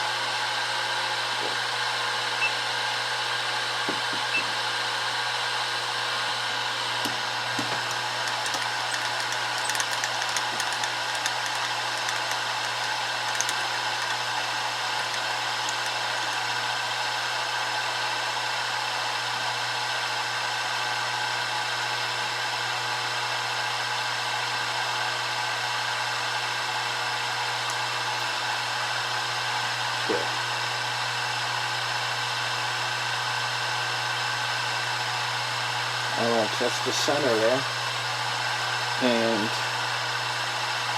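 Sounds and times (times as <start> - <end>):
milling machine motor hum and whine: 0.0 - 40.9.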